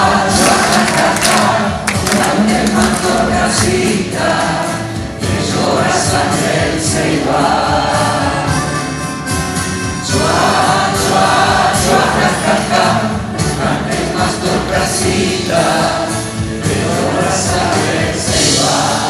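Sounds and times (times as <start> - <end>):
group of voices singing: 0.0 - 19.0
instrumental accompaniment: 0.0 - 19.0.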